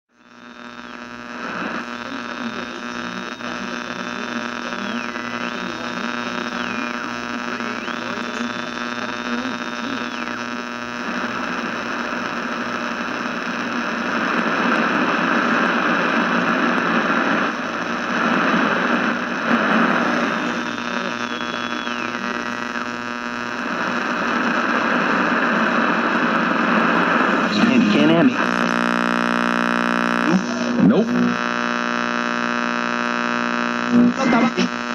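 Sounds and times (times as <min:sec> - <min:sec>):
radio static hiss: 0:00.1 - 0:34.9.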